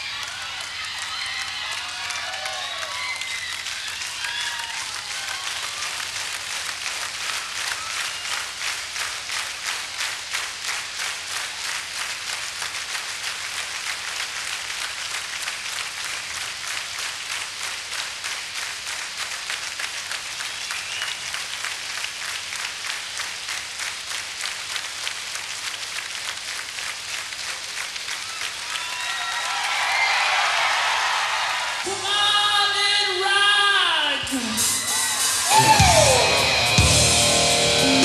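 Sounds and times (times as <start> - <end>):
crowd clapping in unison: 0.0 - 32.2, 34.6 - 38.0.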